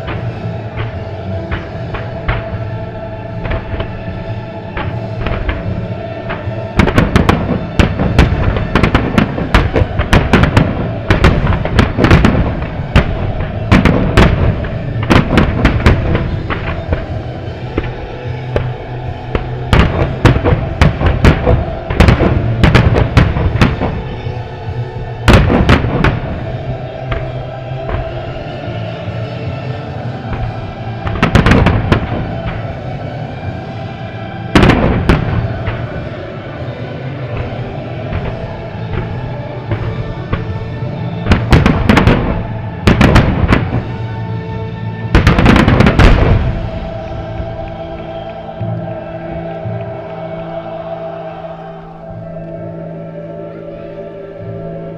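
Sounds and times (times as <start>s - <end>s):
fireworks bangs: 0.0s - 44.3s, 45.1s - 50.5s
music: 0.0s - 54.9s.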